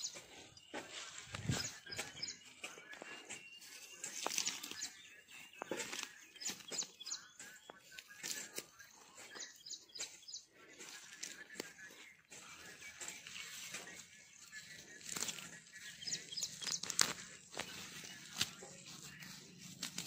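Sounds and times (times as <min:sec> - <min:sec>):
bird chirps: 0:00.0 - 0:19.6
dry grass rustling and crackling: 0:00.0 - 0:20.0.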